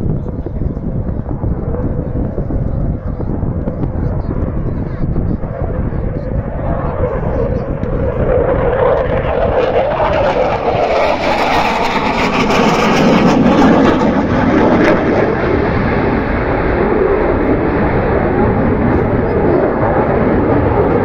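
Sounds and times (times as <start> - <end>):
fighter jets roaring overhead: 0.0 - 21.0.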